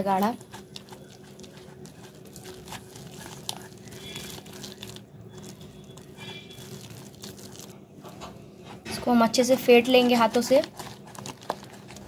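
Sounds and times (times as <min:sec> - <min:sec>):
hand mixing batter in bowl: 0:00.0 - 0:07.9, 0:09.1 - 0:12.0.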